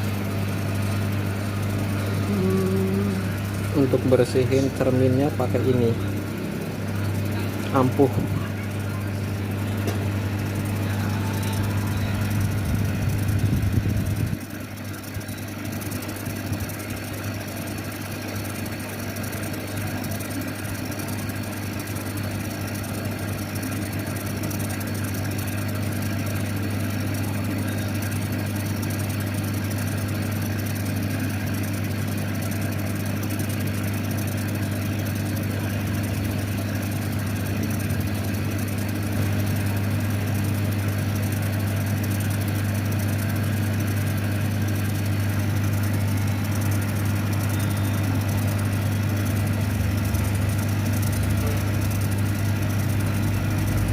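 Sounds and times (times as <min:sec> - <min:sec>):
fans running: 0:00.0 - 0:53.9
laser cutter electric hum: 0:00.0 - 0:53.9.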